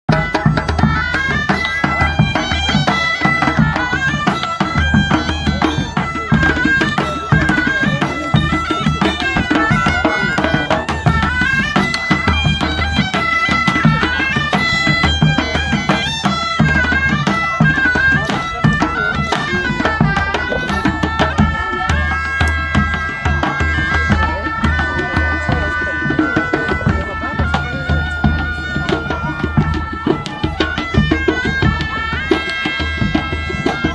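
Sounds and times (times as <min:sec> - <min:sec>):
bagpipe melody with drone: 0:00.1 - 0:33.9
quick drum beat: 0:00.1 - 0:33.9.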